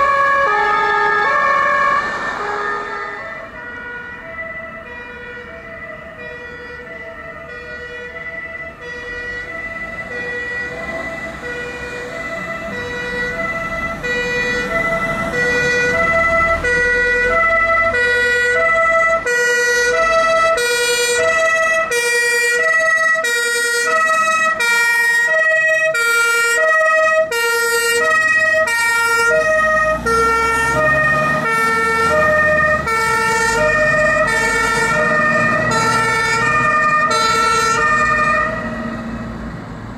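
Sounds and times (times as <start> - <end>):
two-tone fire engine siren: 0.0 - 39.9.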